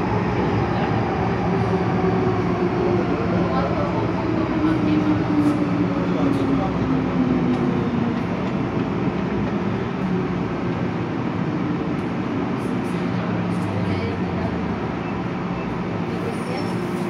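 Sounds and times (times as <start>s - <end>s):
train running noise: 0.0s - 17.0s.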